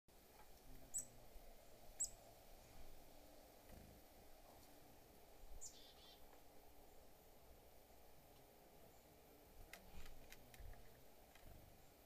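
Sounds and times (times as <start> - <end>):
songbird chirping: 0.2 - 12.0.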